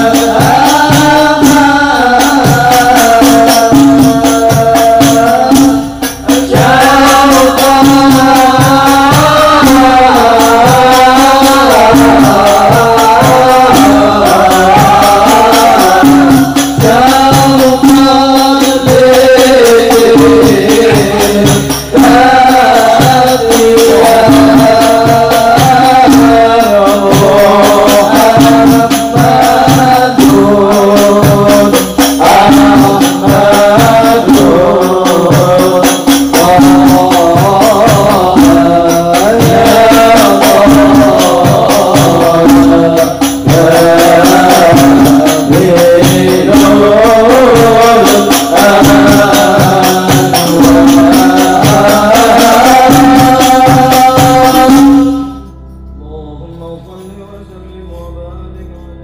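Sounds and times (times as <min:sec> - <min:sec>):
hand-struck frame drums: 0:00.0 - 0:55.3
men singing: 0:00.0 - 0:59.0.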